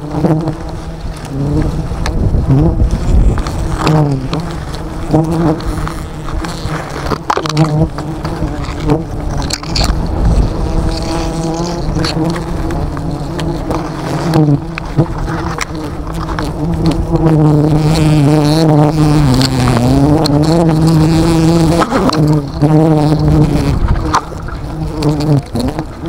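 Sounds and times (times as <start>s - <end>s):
bees buzzing loudly: 0.0s - 26.0s.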